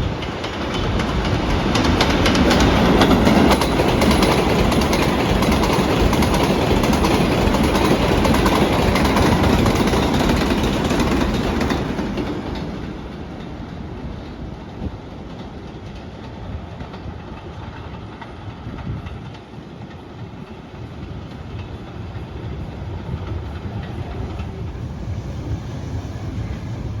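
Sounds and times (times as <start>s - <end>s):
clicks of wheels on rail: 0.0s - 27.0s
subway train wheels rumbling: 0.0s - 27.0s.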